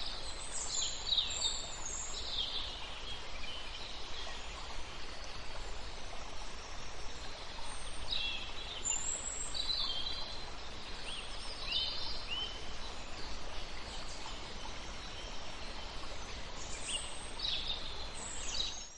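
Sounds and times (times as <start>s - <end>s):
steady background hiss: 0.0s - 18.9s.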